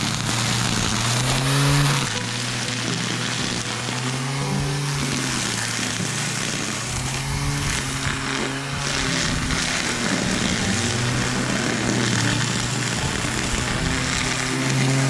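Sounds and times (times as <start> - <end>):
string trimmer cutting grass: 0.0 - 15.0.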